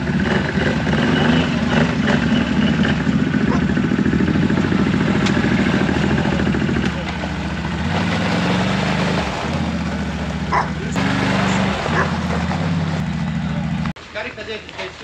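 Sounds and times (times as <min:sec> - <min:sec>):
atv engine idling: 0:00.0 - 0:14.8.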